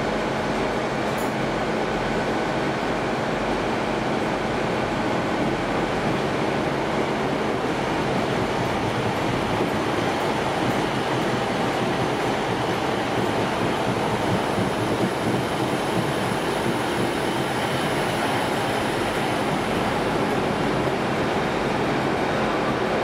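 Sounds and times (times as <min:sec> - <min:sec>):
train engines idling: 0:00.0 - 0:23.0
train passing slowly: 0:00.0 - 0:23.0.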